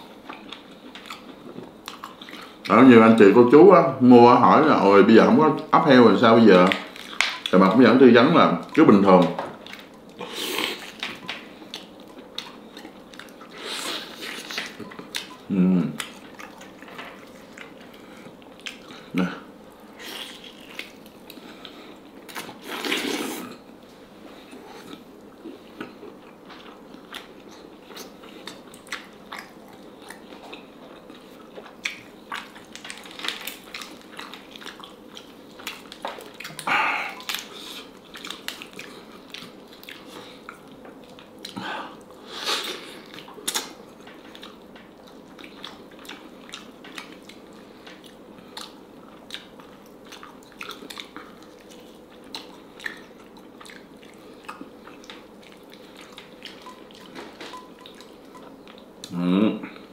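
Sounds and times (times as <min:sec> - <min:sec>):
person chewing food: 0:00.0 - 0:02.7, 0:09.2 - 0:59.9.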